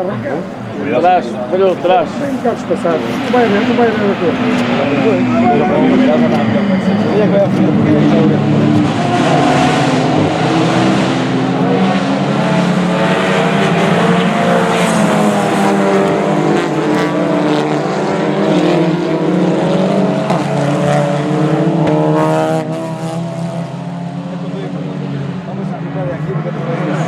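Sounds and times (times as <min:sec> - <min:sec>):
racing car engines: 0:00.0 - 0:27.0.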